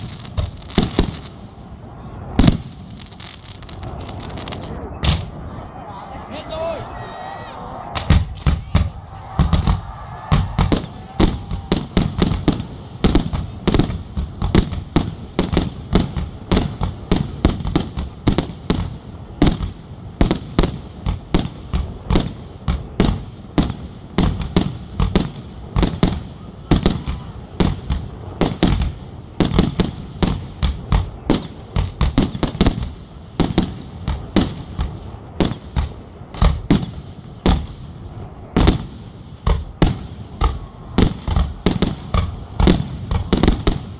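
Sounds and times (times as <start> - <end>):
fireworks launching and bursting: 0.0 - 43.9.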